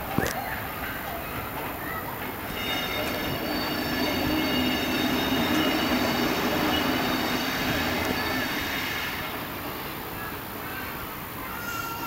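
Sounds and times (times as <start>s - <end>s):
electric train running on rails: 0.0s - 12.0s.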